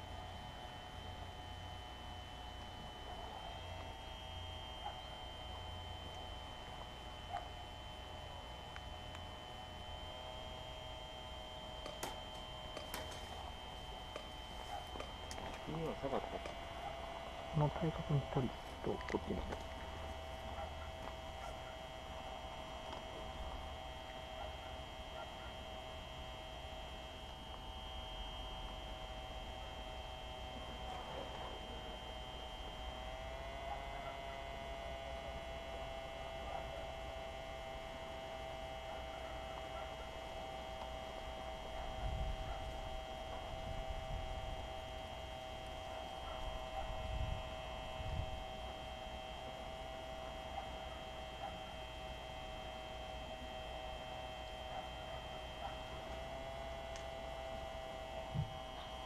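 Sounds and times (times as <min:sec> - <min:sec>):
steady multi-tone hum: 0:00.0 - 0:59.0.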